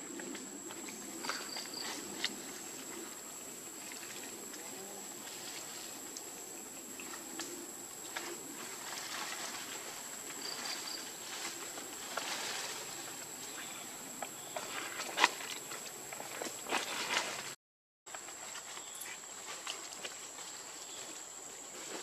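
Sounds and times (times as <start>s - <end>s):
faint ticks and rustles: 0.1s - 17.5s, 18.1s - 22.0s.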